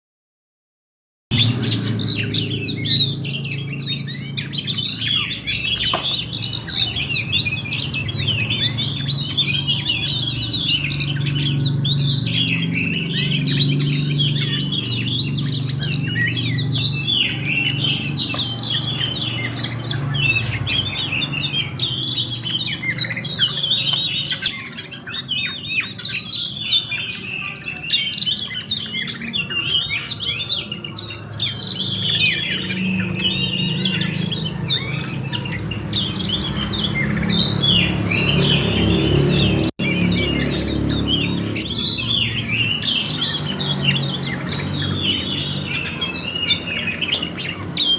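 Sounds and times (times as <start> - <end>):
songbird singing rapid chirps: 1.3 - 47.9.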